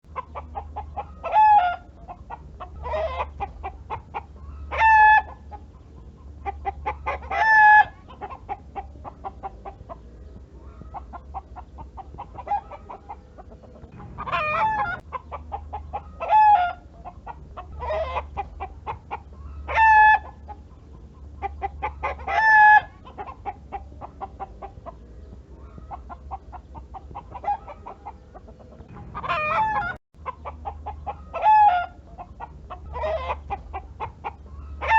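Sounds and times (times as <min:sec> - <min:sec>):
hen cackling: 0:00.1 - 0:05.7, 0:06.3 - 0:10.0, 0:10.6 - 0:20.6, 0:21.2 - 0:34.9.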